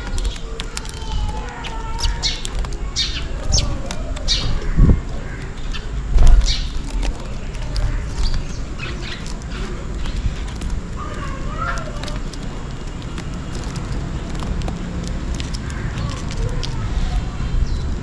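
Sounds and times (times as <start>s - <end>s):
low rumbling thumps: 0.0s - 18.0s
sparrows chirping: 0.0s - 18.0s.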